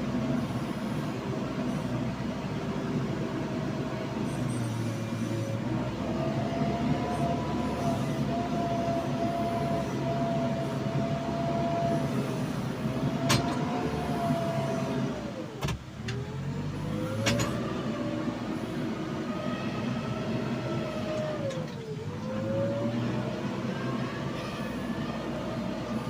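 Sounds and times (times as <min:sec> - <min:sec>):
diesel engine whining under load: 0:00.0 - 0:26.0.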